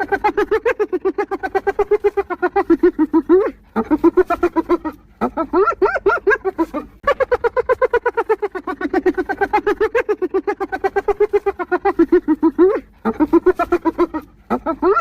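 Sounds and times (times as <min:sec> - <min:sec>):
hyena giggling: 0:00.0 - 0:15.0.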